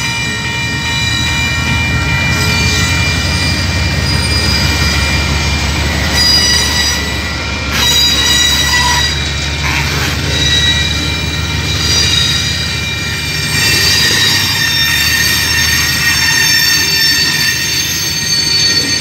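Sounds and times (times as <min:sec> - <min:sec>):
high ringing crossing bells: 0:00.0 - 0:19.0
locomotive engine drone: 0:00.0 - 0:19.0.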